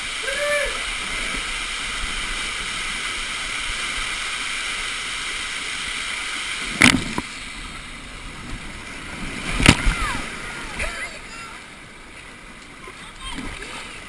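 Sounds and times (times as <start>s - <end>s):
churning water: 0.0s - 14.0s.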